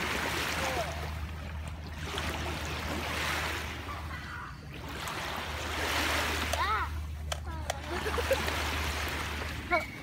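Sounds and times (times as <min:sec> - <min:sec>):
small waves washing on shore: 0:00.0 - 0:10.0
steady low hum: 0:00.0 - 0:10.0.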